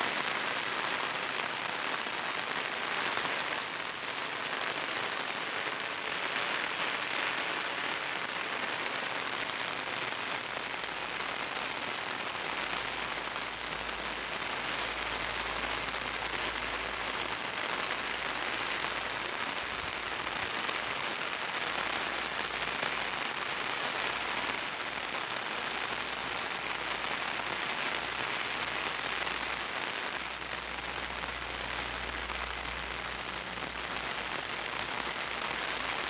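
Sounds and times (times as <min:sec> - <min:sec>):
rain falling on wet ground: 0:00.0 - 0:36.0.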